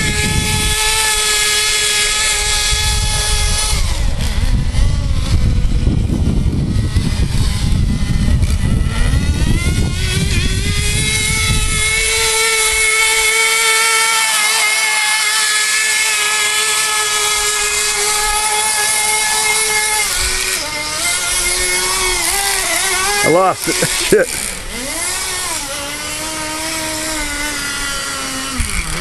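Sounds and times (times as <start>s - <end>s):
small glow engine running: 0.0s - 29.0s.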